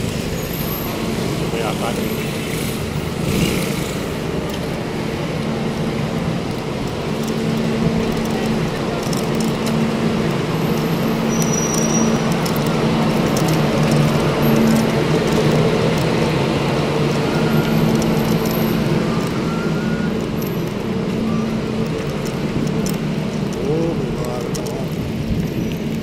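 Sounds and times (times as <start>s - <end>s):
road noise: 0.0s - 26.0s
vehicle engines humming: 0.0s - 26.0s.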